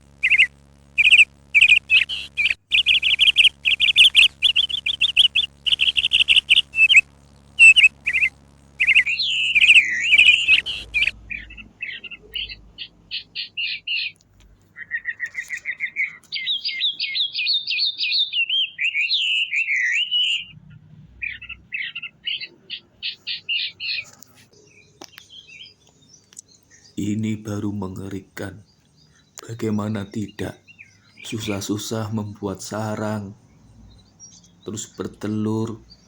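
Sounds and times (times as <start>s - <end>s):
songbirds chirping and warbling: 0.2s - 36.0s.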